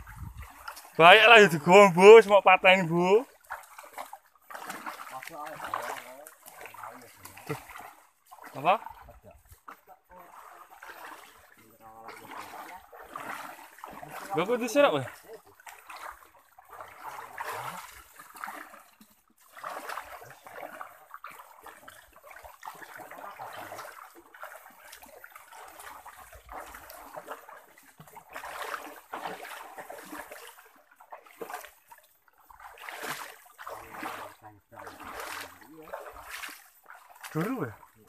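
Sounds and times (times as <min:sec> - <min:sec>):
feet wading through stream: 0:00.0 - 0:38.0.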